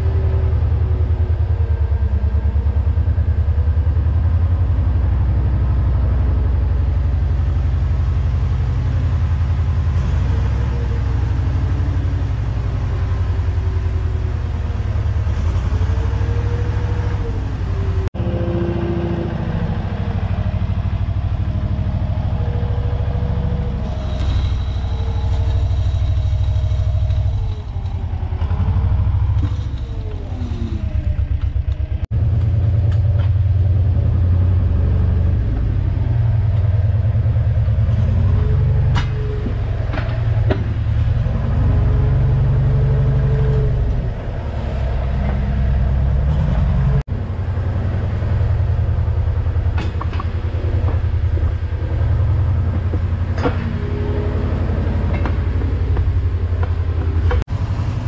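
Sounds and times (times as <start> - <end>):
loader engine running under load: 0.0 - 58.0.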